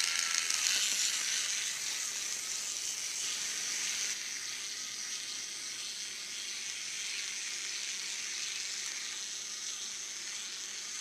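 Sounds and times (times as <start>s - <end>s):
robot gear motors whirring: 0.0s - 11.0s.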